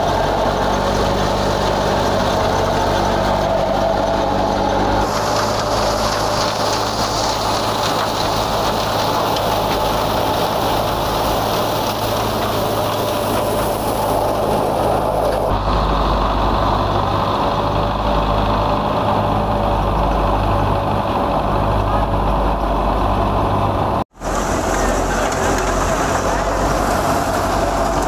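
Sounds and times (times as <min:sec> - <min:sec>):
thresher rushing noise: 0:00.0 - 0:28.0
tractor engine hum: 0:00.0 - 0:28.0.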